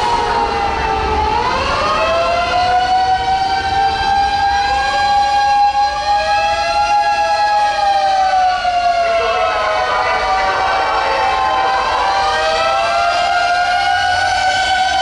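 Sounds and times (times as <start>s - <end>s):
fire engine siren wailing: 0.0s - 15.0s
second wavering siren: 0.0s - 15.0s.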